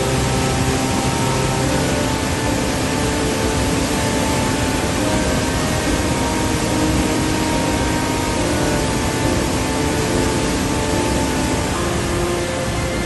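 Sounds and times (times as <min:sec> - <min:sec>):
roar of turbulent white water: 0:00.0 - 0:13.0.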